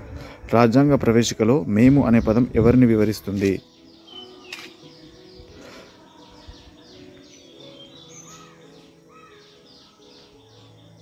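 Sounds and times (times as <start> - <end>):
birds chirping: 0.6 - 11.0.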